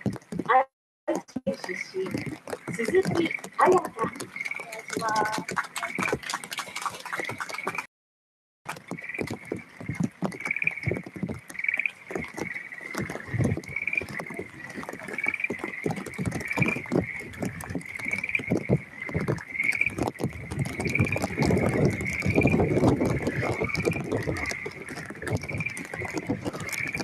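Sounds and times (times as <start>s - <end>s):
rain pattering: 0.0s - 7.9s, 8.7s - 27.0s.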